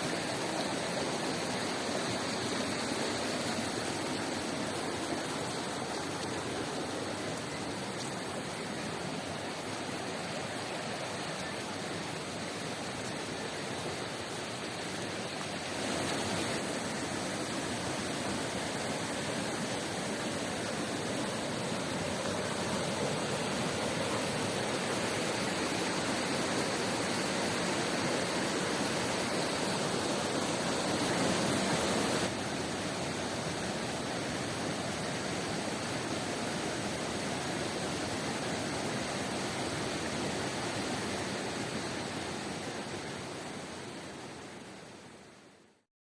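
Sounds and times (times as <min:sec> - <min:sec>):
waterfall and river rushing: 0:00.0 - 0:45.8.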